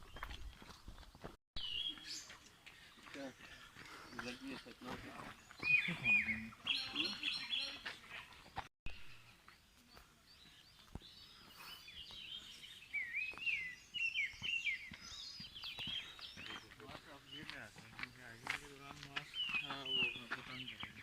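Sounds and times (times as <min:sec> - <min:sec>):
songbirds chirping and whistling: 0:00.0 - 0:21.0.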